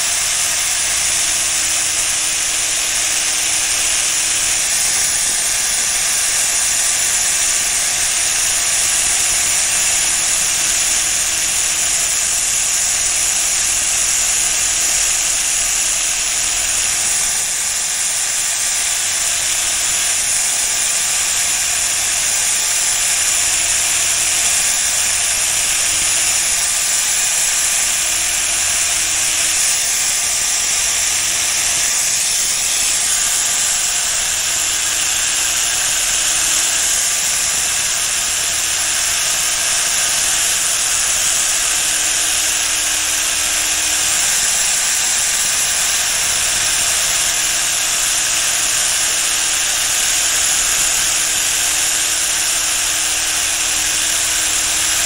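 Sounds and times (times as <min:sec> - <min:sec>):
blade sanding hiss: 0:00.0 - 0:55.0.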